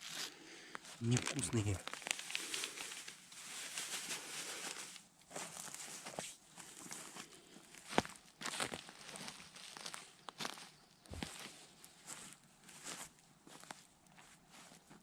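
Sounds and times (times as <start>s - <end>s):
rustling and crinkling handling: 0.0s - 15.0s.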